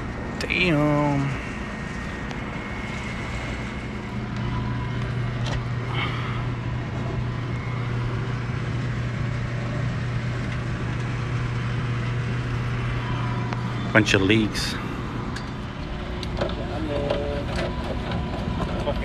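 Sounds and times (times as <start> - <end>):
low mechanical hum: 0.0 - 19.0
outdoor background noise: 0.0 - 19.0.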